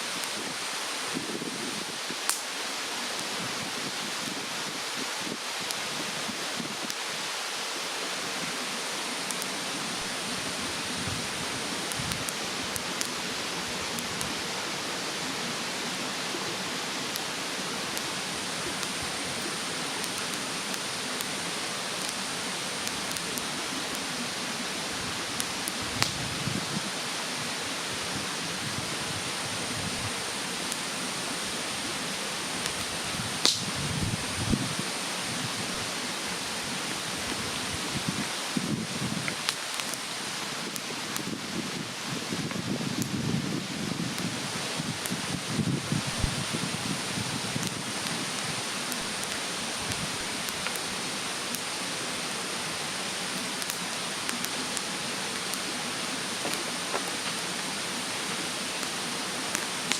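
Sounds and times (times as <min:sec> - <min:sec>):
rushing mountain stream: 0:00.0 - 0:59.9
wood bonfire crackling and popping: 0:00.1 - 0:07.7, 0:08.4 - 0:15.4, 0:16.2 - 0:59.9.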